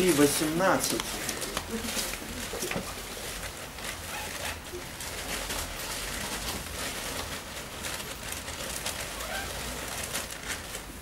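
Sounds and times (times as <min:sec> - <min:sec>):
paper pages being turned: 0:00.0 - 0:11.0.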